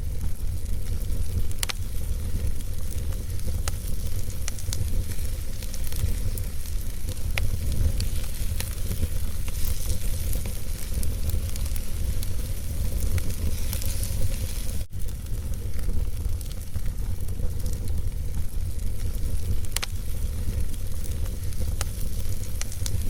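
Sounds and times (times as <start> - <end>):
fire crackles and pops: 0.0 - 23.0
fire rumbling and hissing: 0.0 - 23.0.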